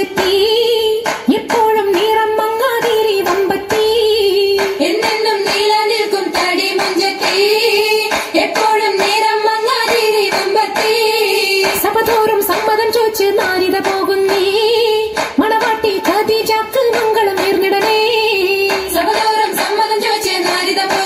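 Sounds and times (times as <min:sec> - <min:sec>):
group hand-clapping: 0:00.0 - 0:21.0
voices singing: 0:00.0 - 0:21.0.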